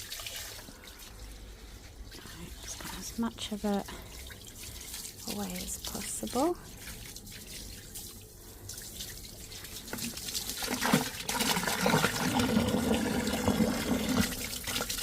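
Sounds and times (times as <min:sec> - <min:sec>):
water splashing into drain: 0:00.0 - 0:01.3, 0:02.0 - 0:15.0.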